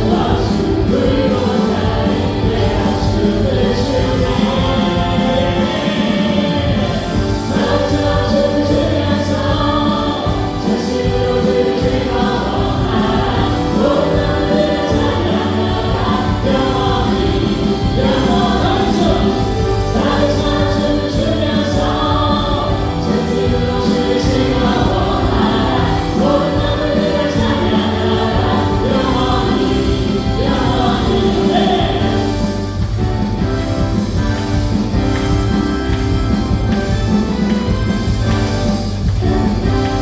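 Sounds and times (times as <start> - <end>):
people singing: 0.0 - 40.0
worship band playing: 0.0 - 40.0.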